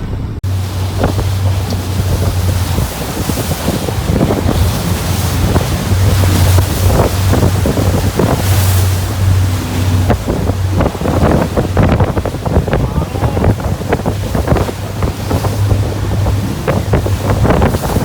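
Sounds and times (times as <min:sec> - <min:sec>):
boat engine humming: 0:00.0 - 0:18.0
wind buffeting the microphone: 0:00.0 - 0:18.0
rushing water: 0:00.1 - 0:18.0.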